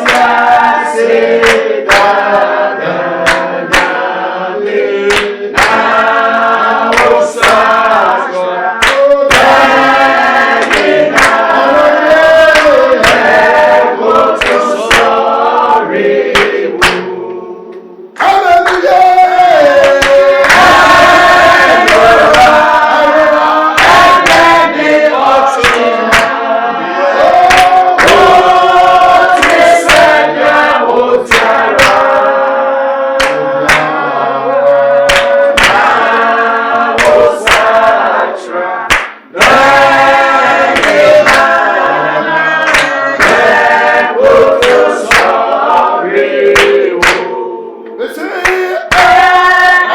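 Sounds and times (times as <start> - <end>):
group singing worship song: 0.0 - 49.9.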